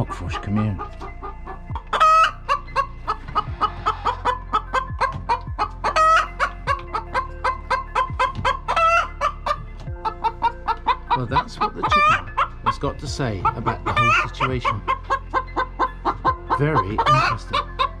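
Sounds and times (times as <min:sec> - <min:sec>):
chicken squawking: 0:00.0 - 0:18.0
chickens clucking: 0:00.0 - 0:18.0.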